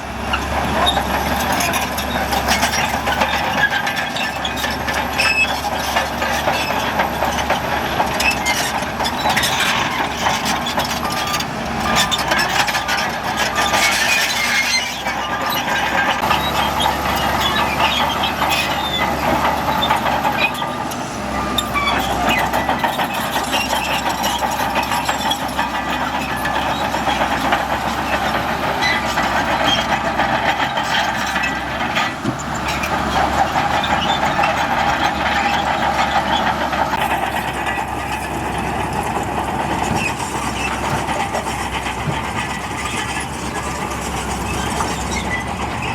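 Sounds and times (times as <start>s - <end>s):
diesel earthmover engine: 0.0s - 45.9s.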